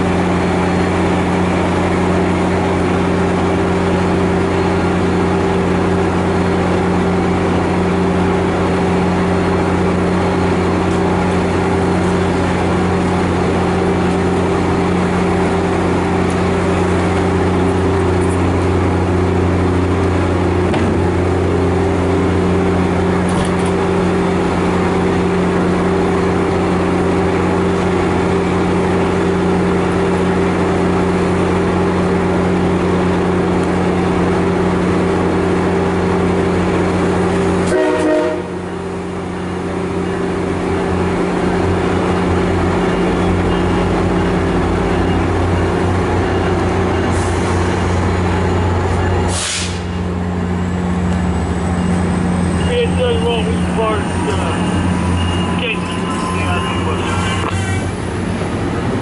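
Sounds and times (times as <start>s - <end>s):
diesel train engine droning: 0.0s - 59.0s.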